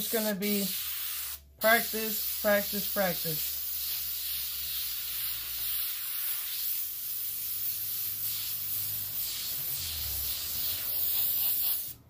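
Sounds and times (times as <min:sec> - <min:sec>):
airbrush air hiss: 0:00.0 - 0:12.0.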